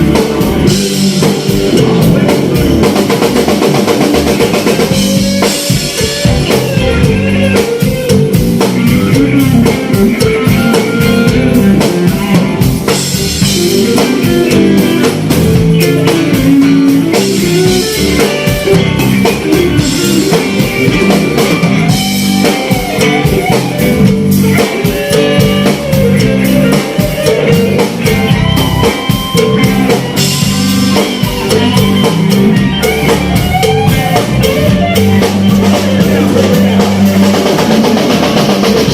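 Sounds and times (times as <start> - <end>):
drum kit: 0.0 - 38.9
guitar: 0.0 - 38.9.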